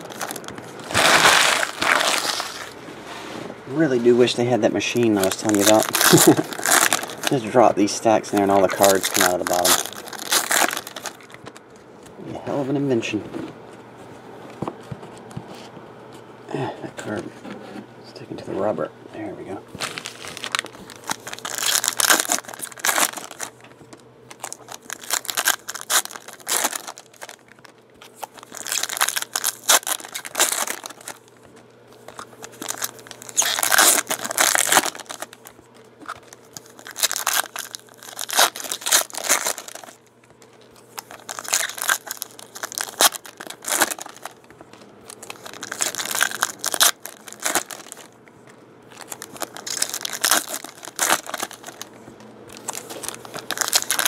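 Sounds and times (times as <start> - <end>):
foil wrappers tearing and crinkling: 0.0 - 2.8, 4.1 - 11.6, 19.8 - 48.2, 48.9 - 54.0.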